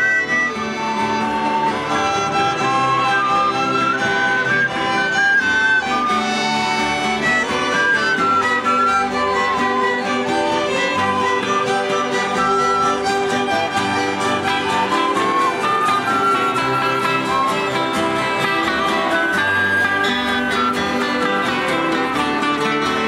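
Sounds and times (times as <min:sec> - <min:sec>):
strummed acoustic guitars: 0:00.0 - 0:23.0
violins playing melody: 0:00.0 - 0:23.0.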